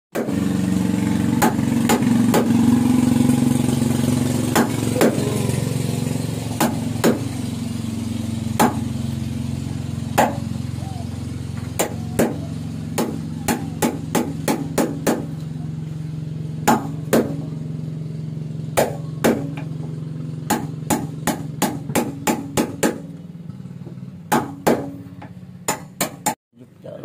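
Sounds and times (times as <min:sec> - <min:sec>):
low hum: 0:00.2 - 0:25.7.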